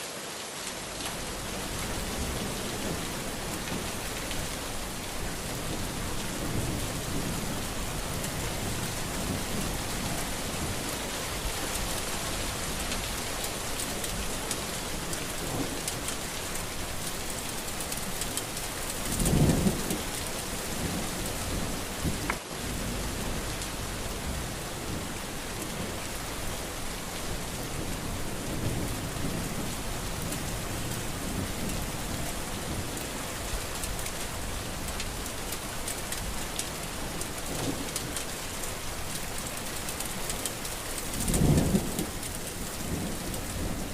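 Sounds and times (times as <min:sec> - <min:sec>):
steady rain pouring: 0:00.0 - 0:43.9
low rumble of thunder: 0:01.0 - 0:39.6, 0:40.2 - 0:43.9.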